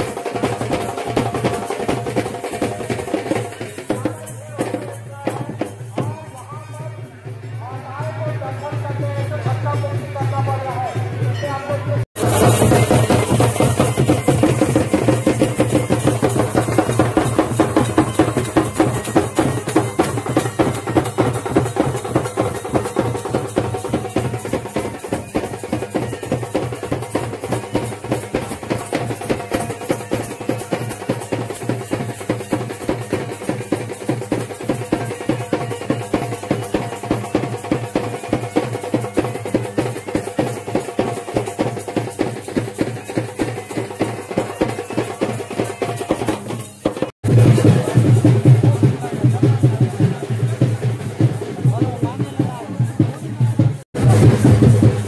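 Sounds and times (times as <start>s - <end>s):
fast drumming: 0.0s - 55.0s.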